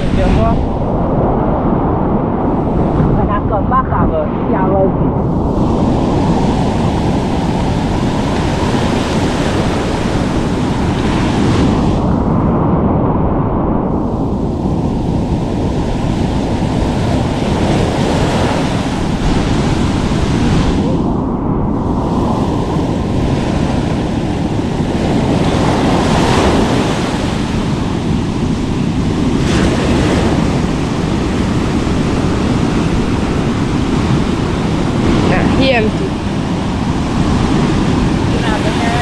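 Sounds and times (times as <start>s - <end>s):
ocean surf breaking: 0.0s - 39.0s
wind buffeting microphone: 0.0s - 39.0s.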